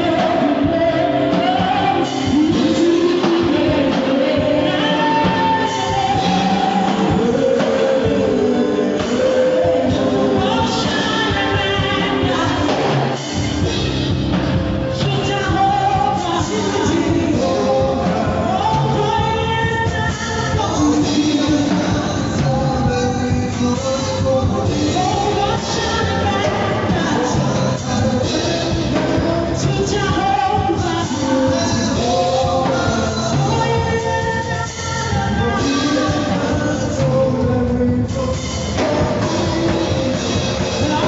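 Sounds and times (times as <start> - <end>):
lead singer: 0.0 - 41.0
rock band playing: 0.0 - 41.0.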